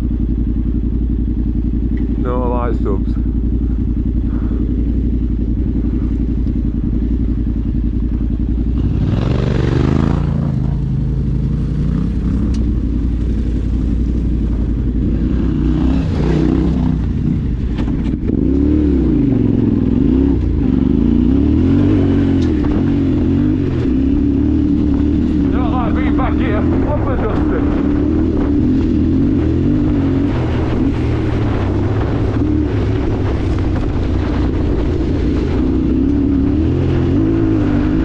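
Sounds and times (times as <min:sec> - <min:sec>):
vehicle engine drone: 0:00.0 - 0:38.0.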